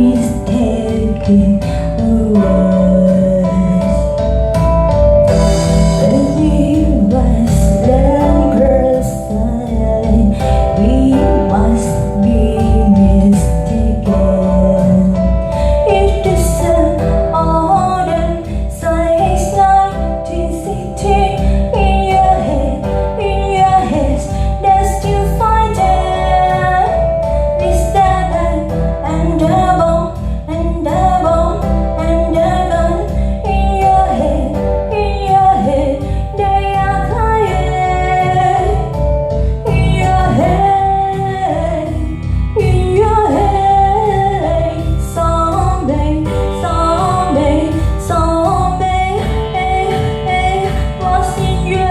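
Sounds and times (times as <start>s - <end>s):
heavy pulsing bass: 0.0s - 51.9s
song with female singer: 0.0s - 51.9s.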